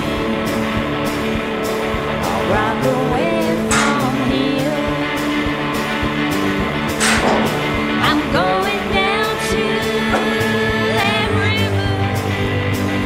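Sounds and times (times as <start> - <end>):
song with singing voice: 1.7 - 13.0.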